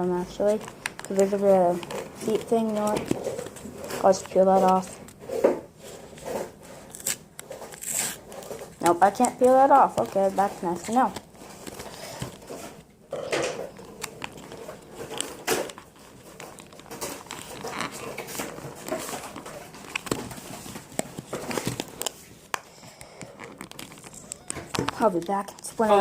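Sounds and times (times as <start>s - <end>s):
box crinkling and rustling: 0.1s - 26.0s
small clicks and scrapes: 0.3s - 26.0s.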